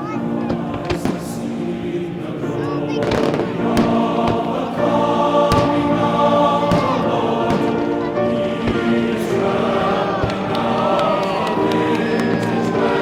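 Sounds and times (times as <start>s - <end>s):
choir singing: 0.0s - 13.0s
firework bangs: 0.4s - 13.0s.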